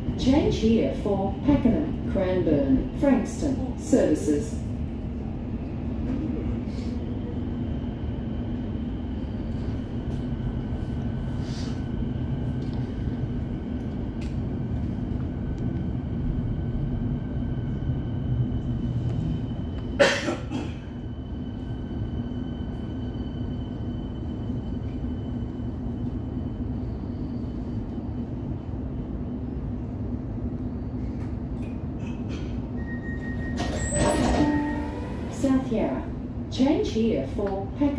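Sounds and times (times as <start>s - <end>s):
train wheels rumbling on track: 0.0s - 37.9s.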